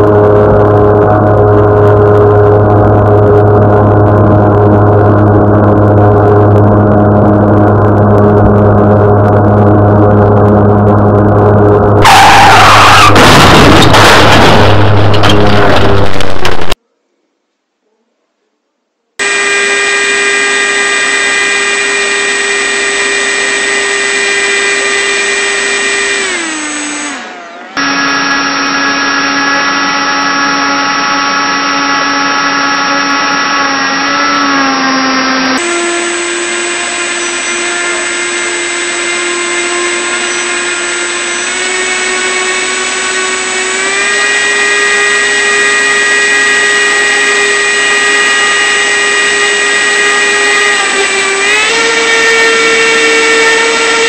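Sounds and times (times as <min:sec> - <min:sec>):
model boat motor whine: 0:00.0 - 0:13.1, 0:19.2 - 0:54.0.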